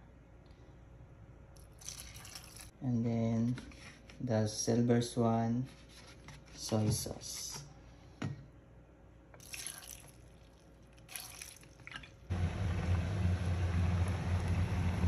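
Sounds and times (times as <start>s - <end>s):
cooktop electrical hum and fan: 0.0s - 15.0s.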